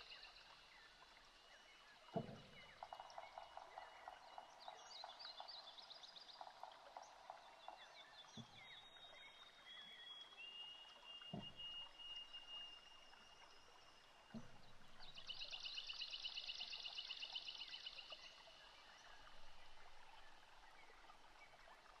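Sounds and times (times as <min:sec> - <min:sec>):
small birds singing: 0:00.0 - 0:22.0.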